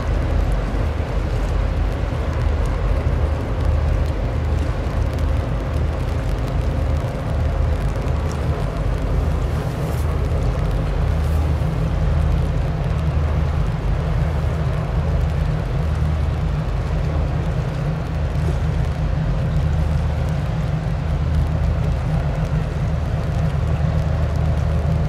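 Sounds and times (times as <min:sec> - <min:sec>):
ship engine drone: 0:00.0 - 0:25.0.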